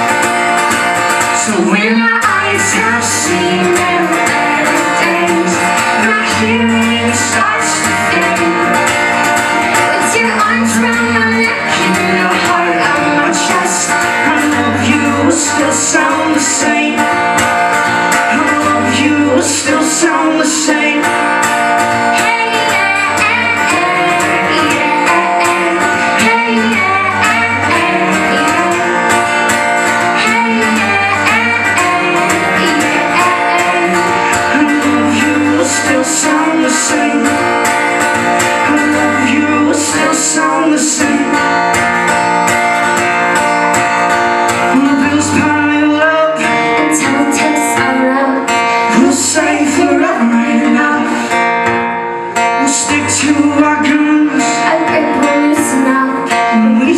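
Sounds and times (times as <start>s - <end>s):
person singing: 0.0s - 41.9s, 44.5s - 56.9s
bass: 0.0s - 56.9s
strummed acoustic guitar: 0.0s - 56.9s.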